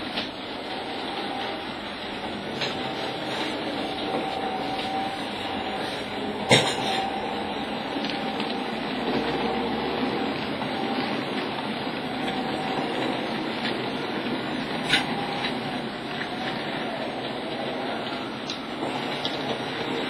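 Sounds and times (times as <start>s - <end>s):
model train motor whirring: 0.0s - 20.0s
wheels clicking over track: 0.0s - 20.0s.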